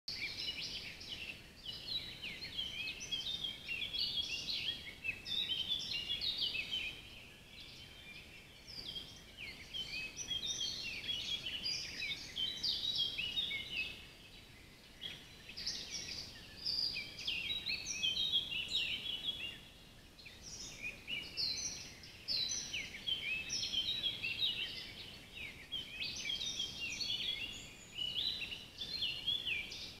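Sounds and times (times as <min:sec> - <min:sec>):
bird chirps and trills: 0:00.1 - 0:30.0.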